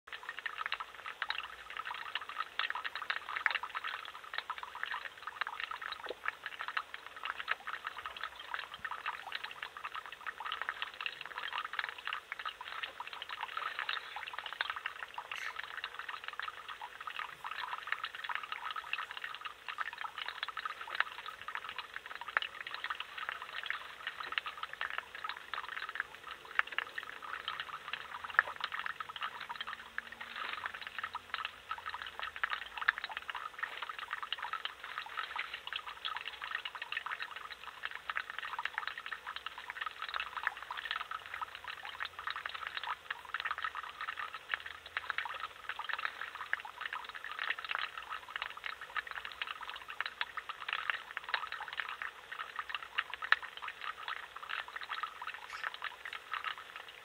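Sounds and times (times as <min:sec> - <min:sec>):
running water trickling: 0:00.1 - 0:57.0.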